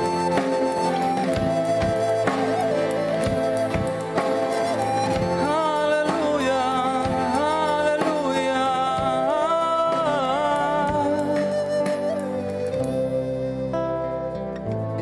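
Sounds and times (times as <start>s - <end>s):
clarinet melody with vibrato: 0.0s - 14.8s
keyboard chords: 0.0s - 15.0s.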